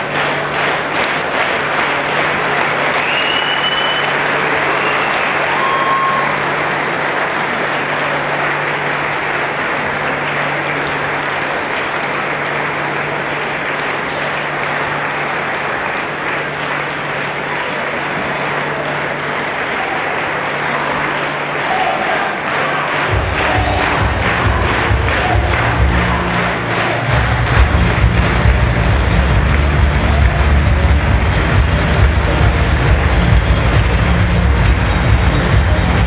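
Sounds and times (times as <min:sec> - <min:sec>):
crowd applauding: 0:00.0 - 0:36.0.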